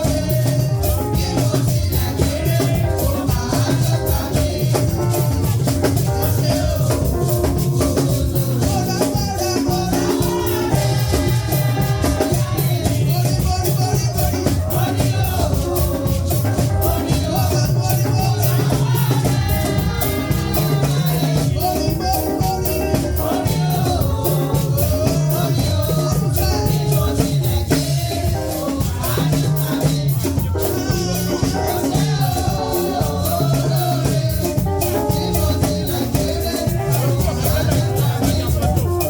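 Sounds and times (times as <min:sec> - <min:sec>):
lively music with steady beat: 0:00.0 - 0:39.0
person singing: 0:00.0 - 0:39.0
shaker keeping time: 0:00.0 - 0:39.0.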